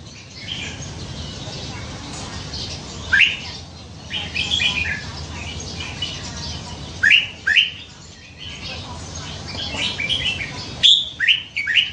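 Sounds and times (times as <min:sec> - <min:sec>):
bird singing: 0:00.0 - 0:11.9.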